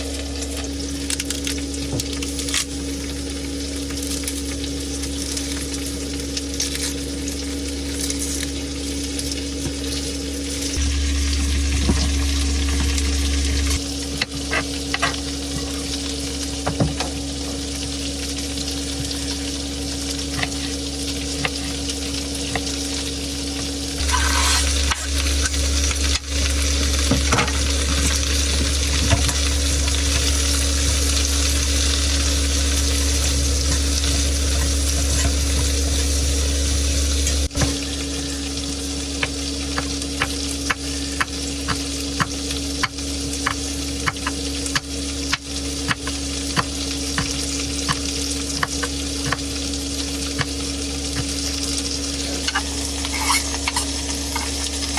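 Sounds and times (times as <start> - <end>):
food sizzling in a frying pan: 0.0 - 54.9
steady hum: 0.0 - 54.9.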